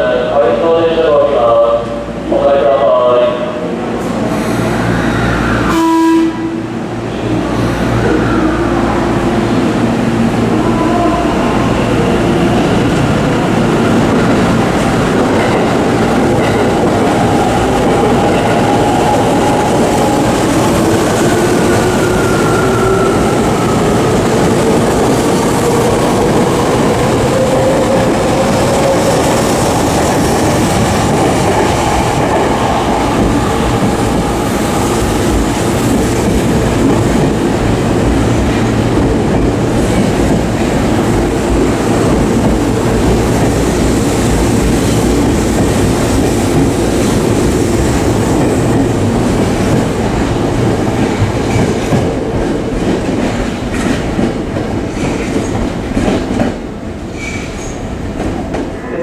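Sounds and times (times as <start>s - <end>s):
electric trains passing: 0.0s - 59.0s.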